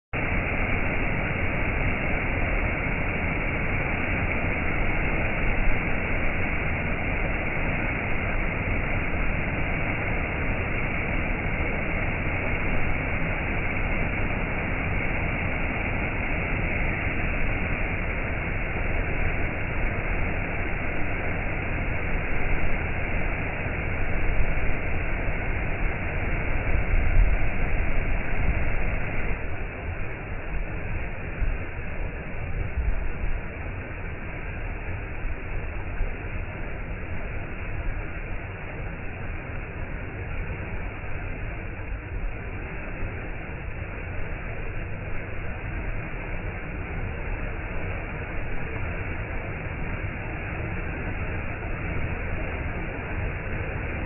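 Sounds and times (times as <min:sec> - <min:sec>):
stream water rushing: 0:00.2 - 0:54.0.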